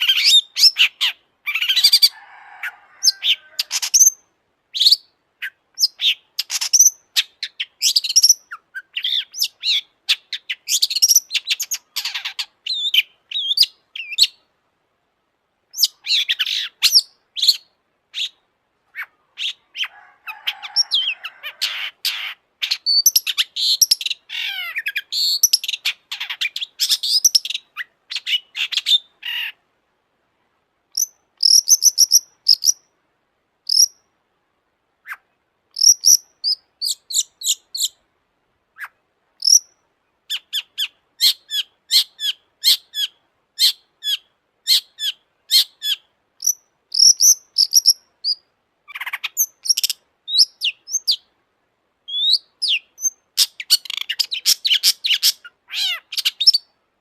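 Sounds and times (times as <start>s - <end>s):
bird singing: 0.0s - 14.5s, 15.7s - 29.6s, 30.9s - 32.9s, 33.7s - 34.1s, 35.0s - 38.0s, 38.8s - 51.3s, 52.1s - 56.8s.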